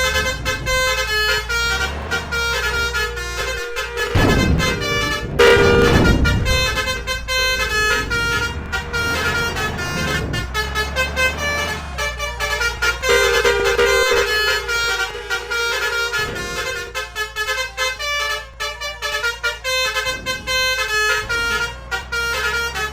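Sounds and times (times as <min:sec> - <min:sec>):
bus musical horns chiming: 0:00.0 - 0:22.9
heavy vehicles passing: 0:00.0 - 0:22.9
held horn blast: 0:00.0 - 0:22.9.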